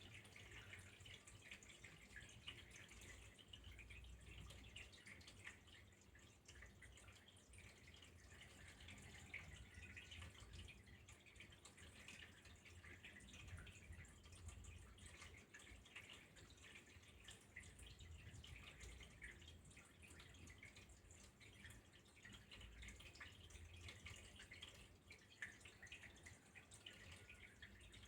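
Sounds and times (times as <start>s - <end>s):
faint trickling water: 0.0s - 28.0s.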